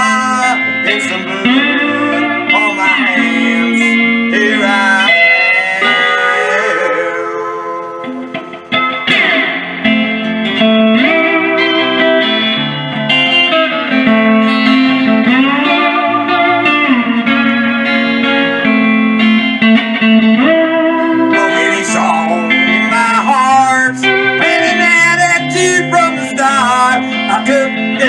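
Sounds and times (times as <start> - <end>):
band music: 0.0 - 28.0
sliding guitar notes: 0.0 - 28.0.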